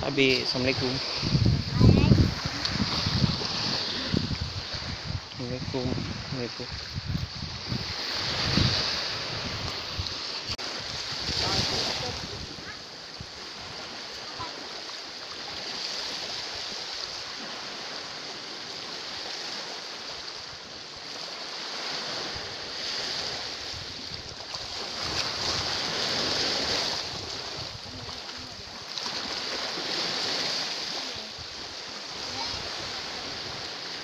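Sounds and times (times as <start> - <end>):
waves washing over rocks: 0.0 - 34.0.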